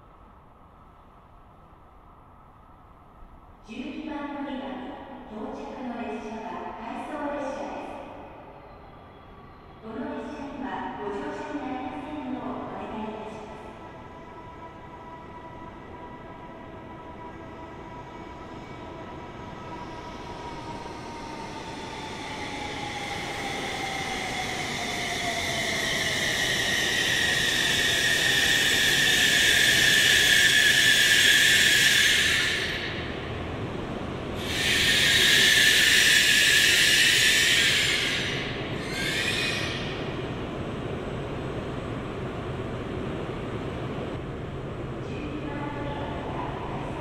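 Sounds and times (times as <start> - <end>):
high-speed train passing: 0.0 - 47.0.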